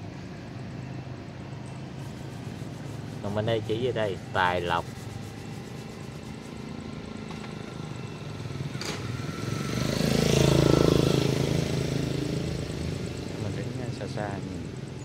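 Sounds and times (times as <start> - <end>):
street background noise: 0.0 - 15.0
vehicle engine passing by: 2.0 - 14.4.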